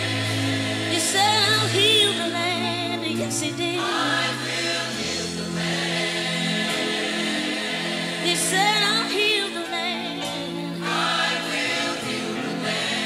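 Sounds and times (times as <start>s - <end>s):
choir singing gospel: 0.0s - 13.0s.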